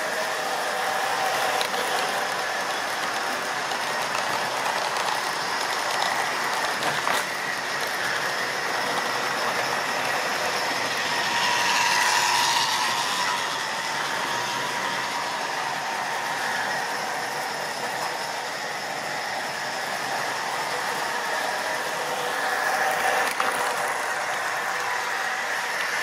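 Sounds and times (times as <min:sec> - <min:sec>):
passing model train: 0:00.0 - 0:26.0.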